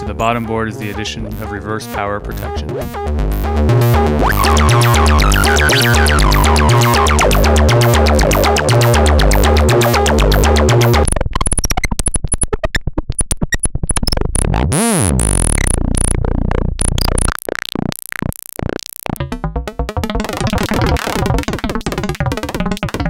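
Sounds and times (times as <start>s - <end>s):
rapid clicking pulses: 0.0s - 23.0s
synthesizer pulsing sequence: 0.0s - 23.0s
repeating synth bass figure: 1.2s - 12.6s, 13.2s - 23.0s.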